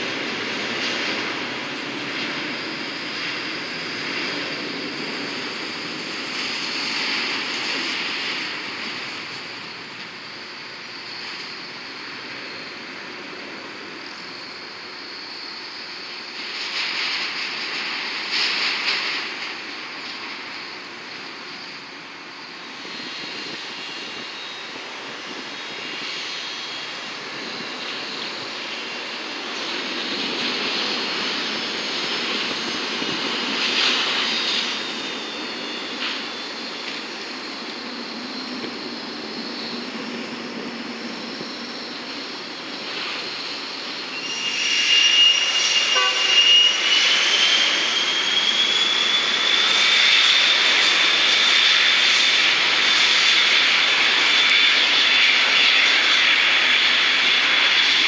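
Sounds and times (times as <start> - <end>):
aircraft engines running: 0.0 - 58.0
high engine whine: 0.0 - 58.0.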